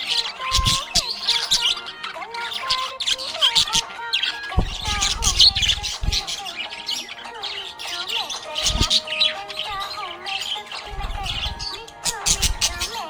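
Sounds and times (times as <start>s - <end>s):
background music: 0.0s - 13.0s
budgerigar chirping and warbling: 0.0s - 13.0s.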